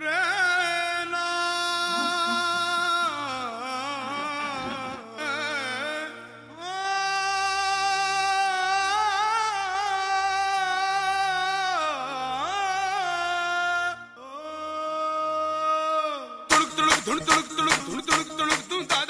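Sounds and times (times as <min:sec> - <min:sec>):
person singing long vibrato note: 0:00.0 - 0:17.4.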